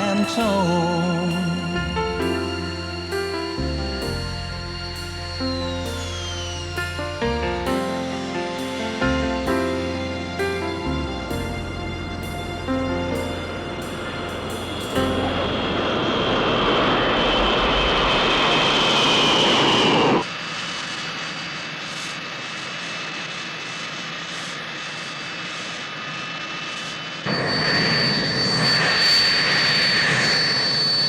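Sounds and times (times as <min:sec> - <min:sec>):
jet engine whine: 0:00.0 - 0:31.0.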